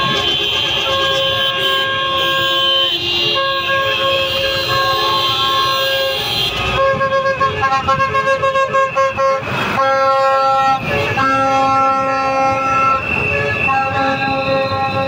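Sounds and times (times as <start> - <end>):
vehicle horns blasting: 0.0 - 15.0.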